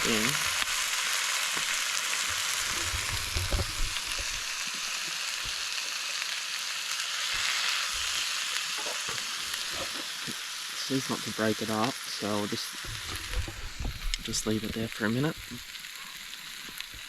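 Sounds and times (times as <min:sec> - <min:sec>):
meat and onion sizzling in oil: 0:00.0 - 0:17.0.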